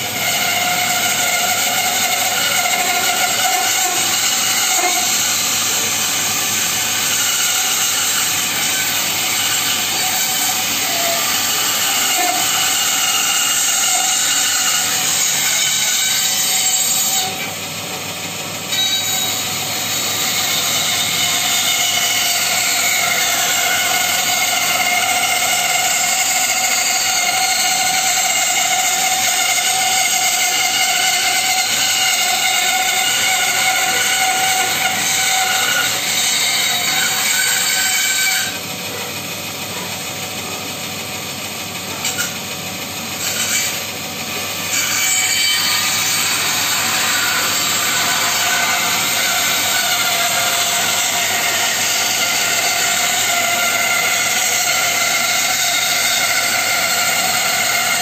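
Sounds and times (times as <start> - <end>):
bandsaw cutting wood: 0.0 - 58.0.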